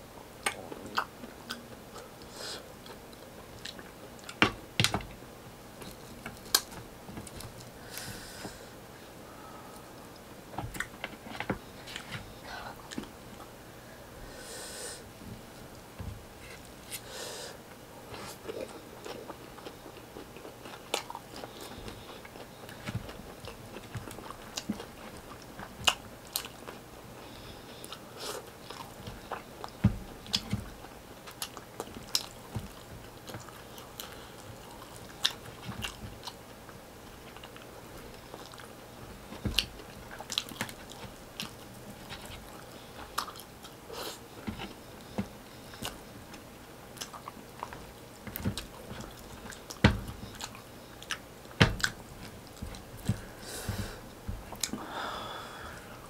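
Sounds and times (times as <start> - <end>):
close chewing and mouth sounds: 0.2 - 5.0, 5.8 - 8.6, 9.7 - 13.5, 17.6 - 54.8.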